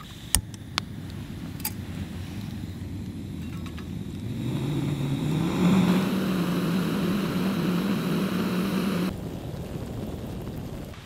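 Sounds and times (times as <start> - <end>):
stove roaring: 0.0 - 11.0
wind on microphone: 0.0 - 11.0.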